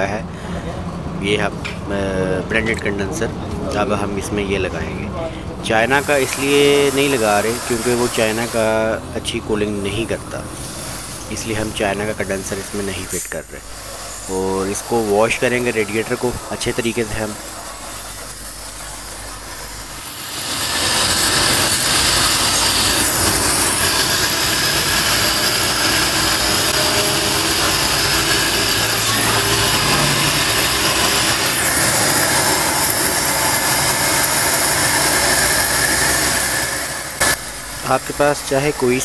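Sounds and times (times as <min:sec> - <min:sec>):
water jet blasting: 0:05.6 - 0:39.0
pressure washer running: 0:05.8 - 0:38.8.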